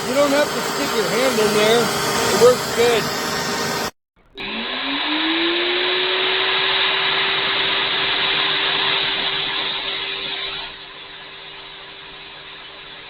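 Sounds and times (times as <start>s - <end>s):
wood chipper motor whining: 0.0s - 13.0s.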